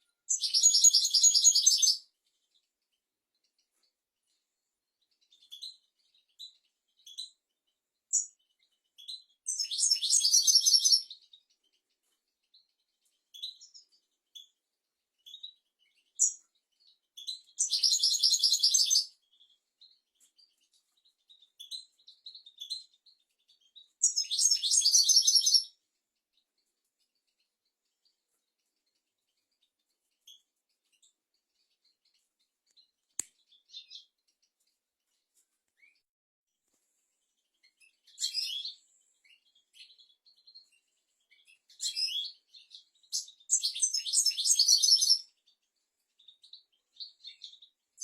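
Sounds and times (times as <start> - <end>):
goldfinch chirping and twittering: 0.0 - 36.0, 37.2 - 48.0.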